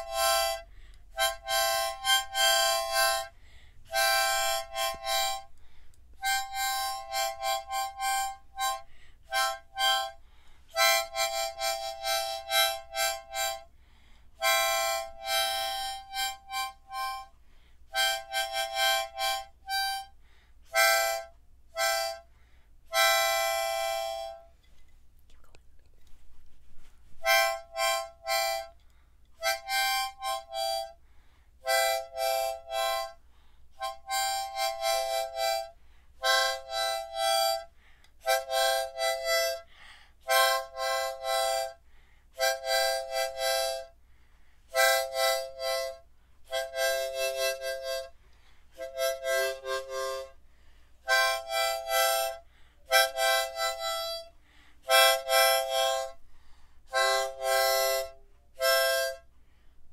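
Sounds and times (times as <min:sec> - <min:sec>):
harmonica playing slow tune: 0:00.0 - 0:24.9, 0:26.7 - 0:59.9.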